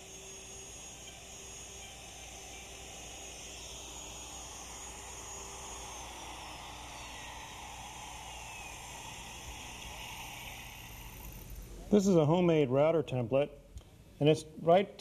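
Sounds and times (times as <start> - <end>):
electric router whining: 0.0 - 12.6.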